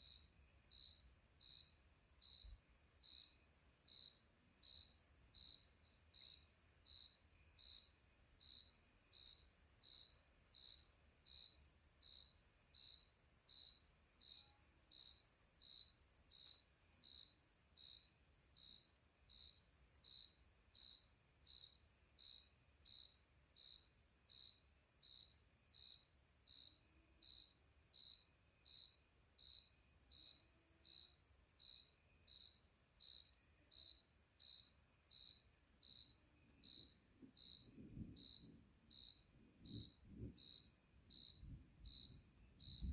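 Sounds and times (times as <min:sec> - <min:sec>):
insect chirping: 0:00.0 - 0:42.9.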